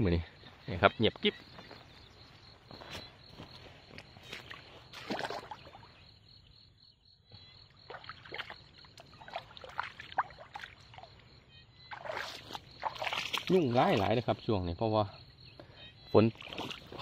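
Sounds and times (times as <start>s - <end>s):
wading through shallow water: 0.4s - 6.2s, 7.6s - 17.0s.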